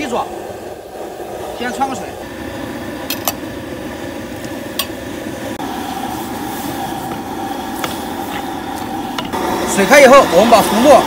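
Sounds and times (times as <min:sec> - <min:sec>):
gas burner running: 0:00.0 - 0:11.0.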